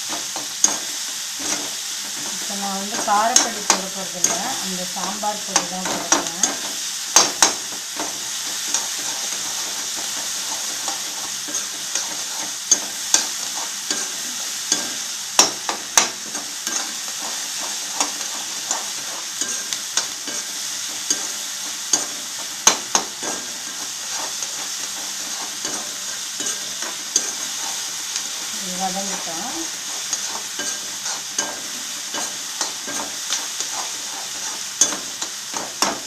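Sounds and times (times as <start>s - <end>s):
vegetables sizzling in oil: 0.0s - 36.0s
spatula scraping and tapping pan: 0.1s - 36.0s.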